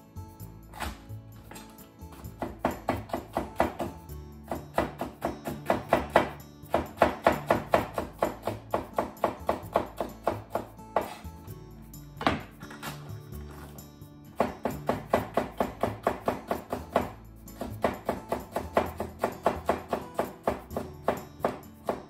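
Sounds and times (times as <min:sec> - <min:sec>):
soft background music: 0:00.0 - 0:22.0
knife chopping on wooden board: 0:00.7 - 0:11.3, 0:12.2 - 0:13.7, 0:14.4 - 0:22.0.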